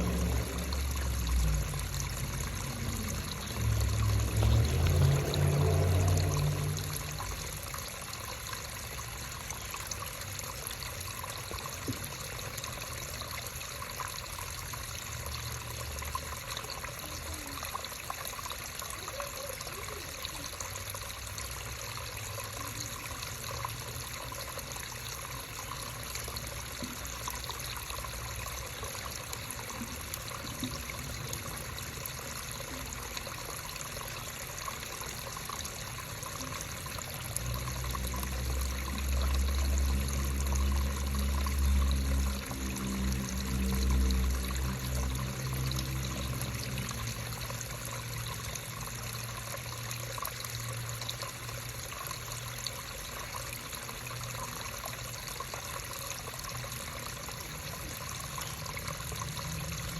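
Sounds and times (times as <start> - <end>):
creek water flowing over stones: 0.0 - 59.9.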